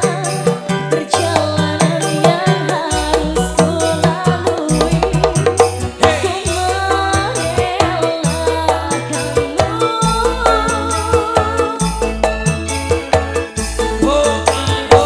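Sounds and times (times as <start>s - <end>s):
quick percussion rhythm: 0.0s - 15.0s
stepping bass line: 0.0s - 15.0s
wavering melody: 0.0s - 15.0s.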